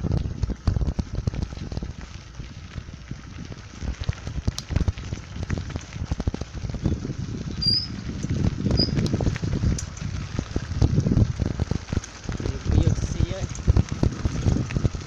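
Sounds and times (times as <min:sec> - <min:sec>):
bicycle tyres crunching on gravel: 0:00.0 - 0:15.0
bike rattling over gravel: 0:00.0 - 0:15.0
wind buffeting microphone: 0:00.0 - 0:15.0.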